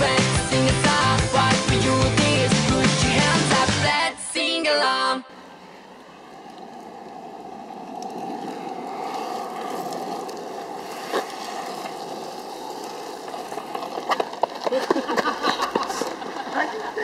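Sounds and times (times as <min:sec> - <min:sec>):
skate wheels rolling on asphalt: 0:00.0 - 0:17.0.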